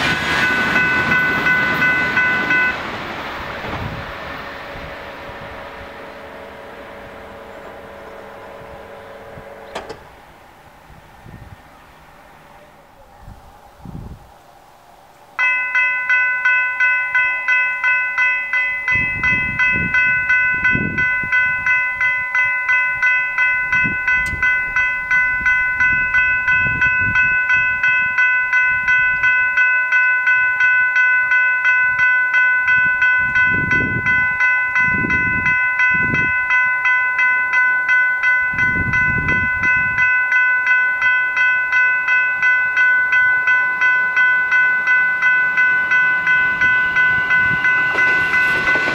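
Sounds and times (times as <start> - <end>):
level crossing bells ringing: 0.0 - 10.9, 15.4 - 48.9.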